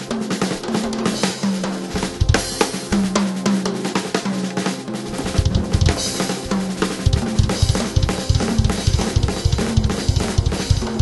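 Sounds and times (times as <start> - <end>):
busy drum kit: 0.0 - 11.0
jazz-fusion band music: 0.0 - 11.0.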